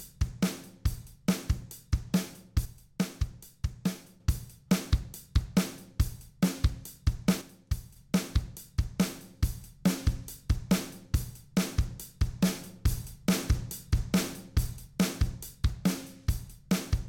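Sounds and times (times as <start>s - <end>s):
drum kit loop: 0.0s - 17.0s.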